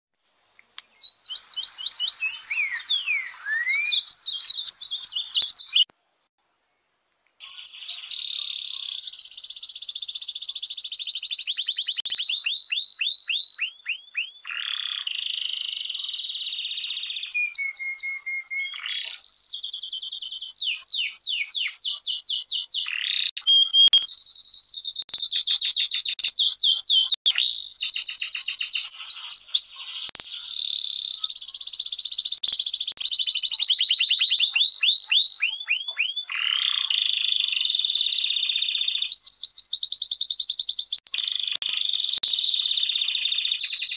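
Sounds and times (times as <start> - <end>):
finch singing trills: 0.6 - 5.9, 7.4 - 43.9.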